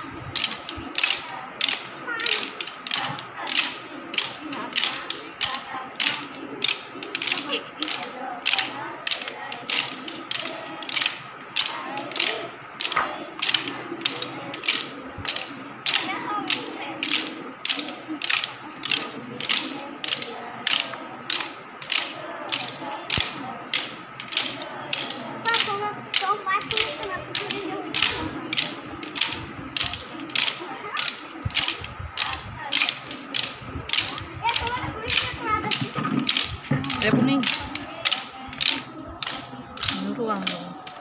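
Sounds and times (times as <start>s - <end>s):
wooden sticks clacking: 0.0s - 41.0s.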